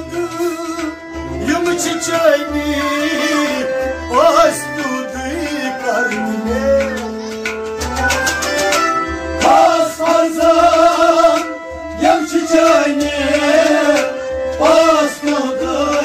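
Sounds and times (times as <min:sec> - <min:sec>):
drum beats: 0:00.0 - 0:02.4, 0:04.1 - 0:16.0
sustained accompaniment: 0:00.0 - 0:16.0.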